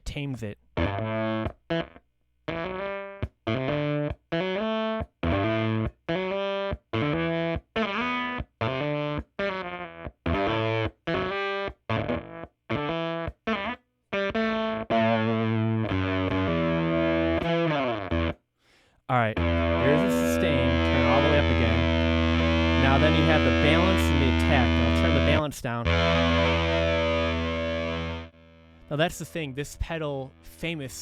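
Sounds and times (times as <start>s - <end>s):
fuzz electric guitar: 0.8s - 18.4s, 19.4s - 31.0s.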